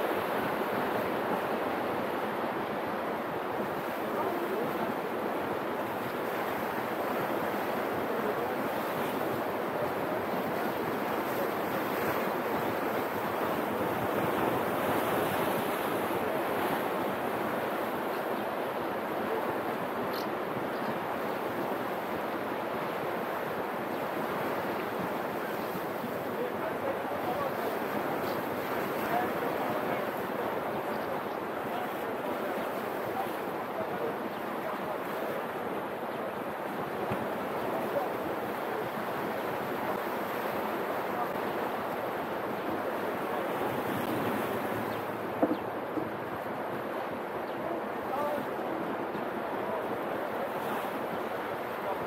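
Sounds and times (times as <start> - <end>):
sea waves washing against concrete: 0.0 - 52.0
wind: 0.0 - 52.0.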